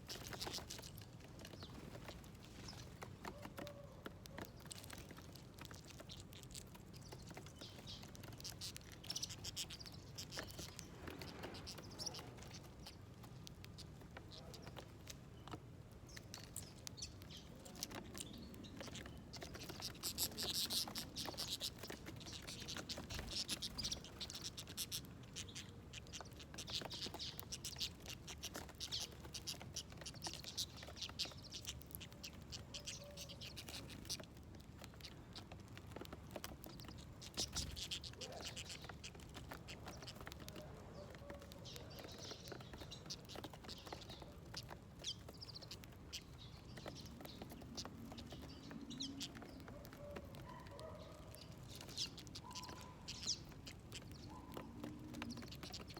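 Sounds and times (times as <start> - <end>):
birds chirping: 0.0 - 55.9
birds pecking seeds: 0.0 - 55.9.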